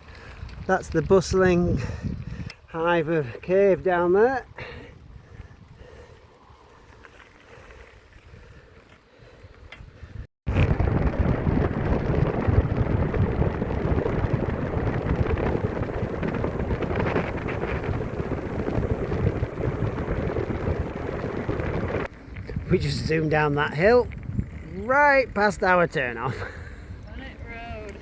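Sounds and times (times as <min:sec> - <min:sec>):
wind buffeting microphone: 0:00.0 - 0:02.7, 0:03.4 - 0:07.0, 0:09.5 - 0:28.0.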